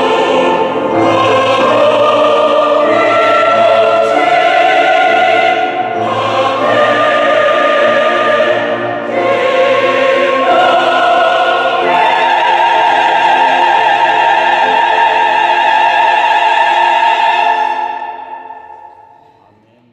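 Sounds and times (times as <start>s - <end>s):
church choir singing: 0.0s - 19.2s.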